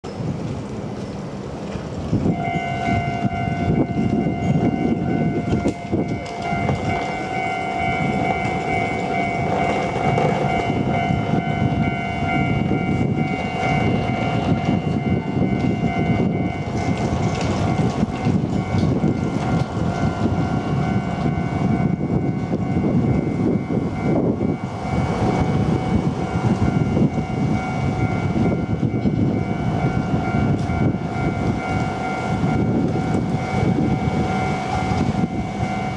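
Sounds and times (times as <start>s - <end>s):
train rumbling over rails: 0.0s - 35.9s
level crossing warning alarm: 2.3s - 35.9s.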